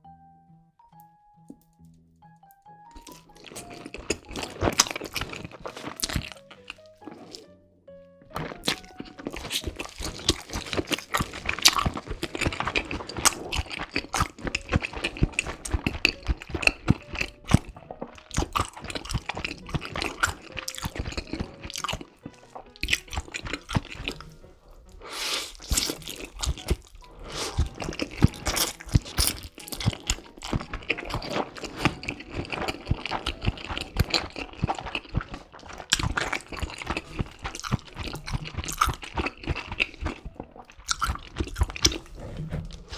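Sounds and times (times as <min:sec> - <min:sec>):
crunching and chewing crispy food: 0:02.9 - 0:07.5, 0:08.2 - 0:42.9.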